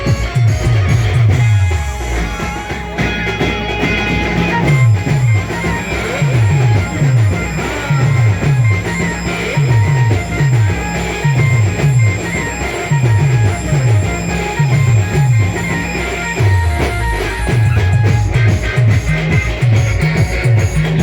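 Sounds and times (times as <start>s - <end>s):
drums: 0.0s - 21.0s.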